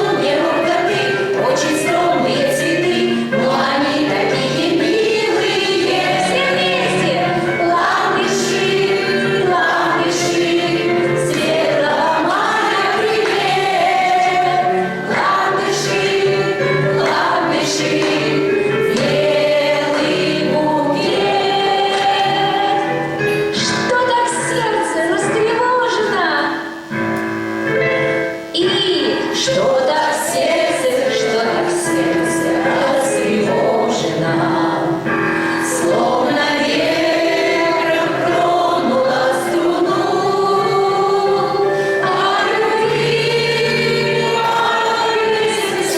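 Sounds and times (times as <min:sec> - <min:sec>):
choir singing: 0:00.0 - 0:23.5, 0:29.3 - 0:45.9.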